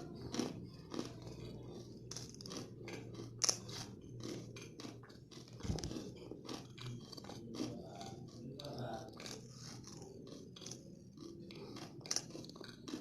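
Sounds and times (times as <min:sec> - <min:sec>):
chewing crunchy candy: 0:00.0 - 0:13.0.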